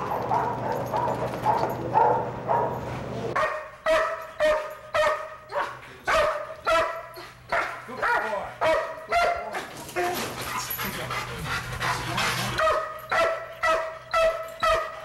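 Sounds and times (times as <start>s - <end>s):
dog barking: 0.0s - 10.2s, 12.6s - 15.0s.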